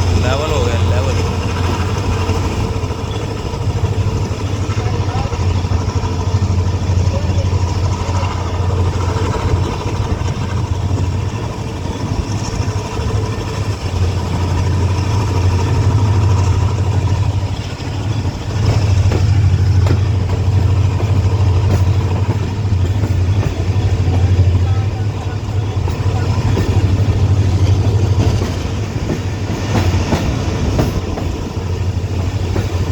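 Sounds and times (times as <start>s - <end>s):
diesel locomotive engine drone: 0.0s - 32.9s.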